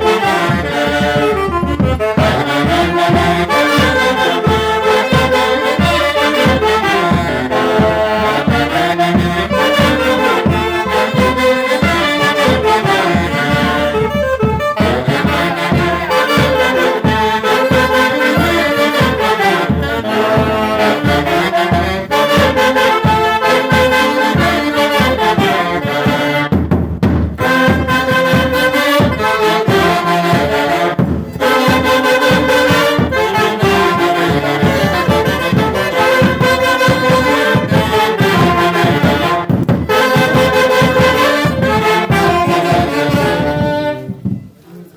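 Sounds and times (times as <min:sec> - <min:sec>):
band with saxophones and brass: 0:00.0 - 0:44.4.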